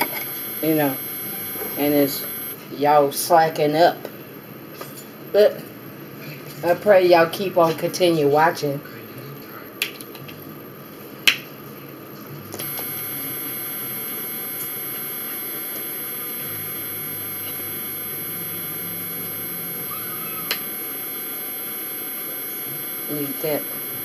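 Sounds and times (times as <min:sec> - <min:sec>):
appliance hum with high whine: 0:00.0 - 0:24.0.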